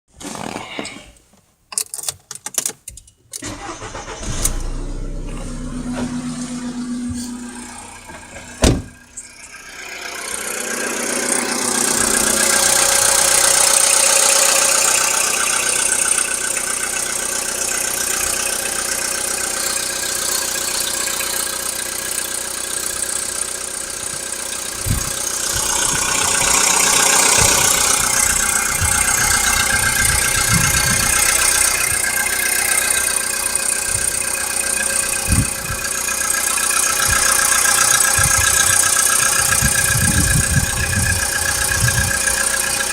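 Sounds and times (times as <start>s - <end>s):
car engine idling with knock: 3.5s - 42.9s.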